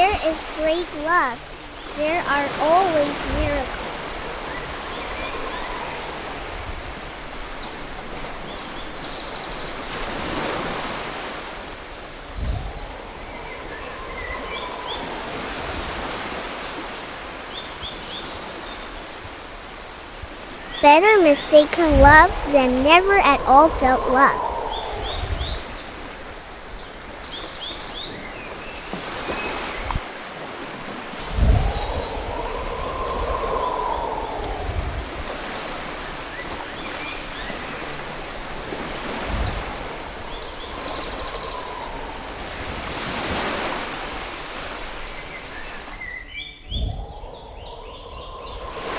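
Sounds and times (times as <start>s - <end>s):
water rushing: 0.0s - 8.6s, 9.8s - 17.5s, 19.3s - 26.8s, 28.8s - 45.8s, 46.8s - 48.9s
birds chirping: 0.0s - 9.8s, 12.7s - 18.6s, 20.7s - 29.9s, 31.2s - 34.9s, 36.3s - 43.4s, 45.2s - 48.9s.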